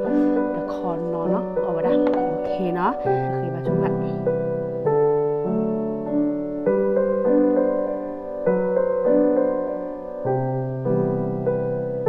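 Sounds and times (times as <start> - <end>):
soft electric piano chords: 0.0 - 12.0.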